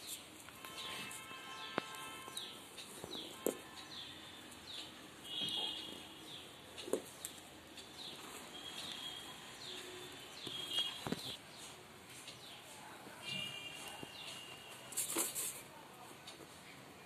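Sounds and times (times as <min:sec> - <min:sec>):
birds chirping: 0:00.1 - 0:14.8.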